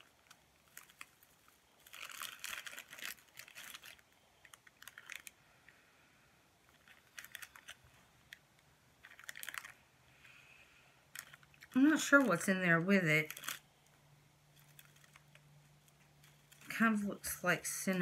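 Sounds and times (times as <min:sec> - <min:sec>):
plastic bag crinkling: 0:00.0 - 0:05.4, 0:06.7 - 0:09.8, 0:11.1 - 0:13.8, 0:14.5 - 0:18.0.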